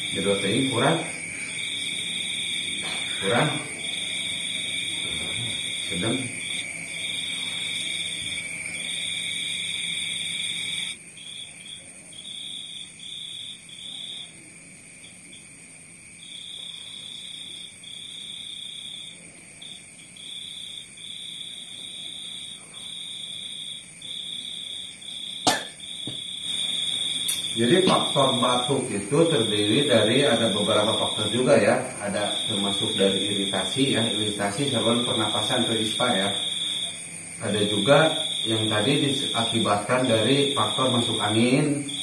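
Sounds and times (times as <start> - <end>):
faint steady hiss: 0.0 - 42.0.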